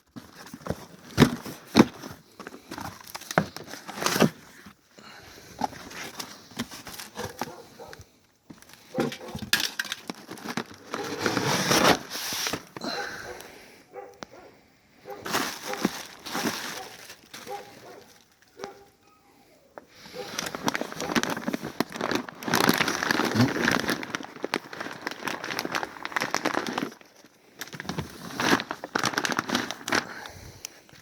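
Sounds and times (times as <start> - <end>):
food packaging crinkling: 0.0 - 4.8, 5.4 - 12.9, 15.1 - 18.9, 20.1 - 31.0.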